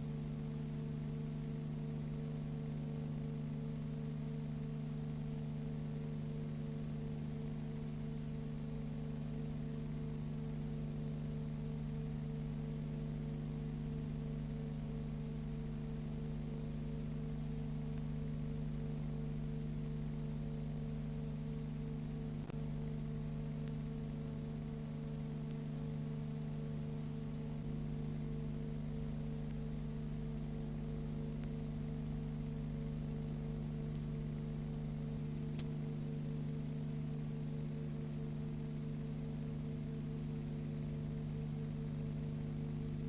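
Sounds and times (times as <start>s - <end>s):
electrical hum: 0.0s - 43.0s.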